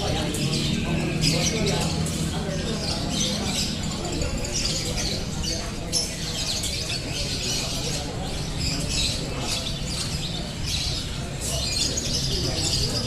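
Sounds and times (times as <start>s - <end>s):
caged songbirds singing: 0.0s - 13.0s
low rumble of crowd: 0.0s - 13.0s.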